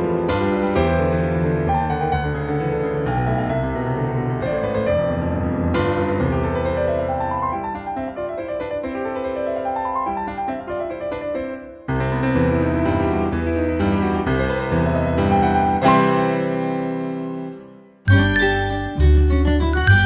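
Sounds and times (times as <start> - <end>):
gentle piano piece: 0.0 - 20.0.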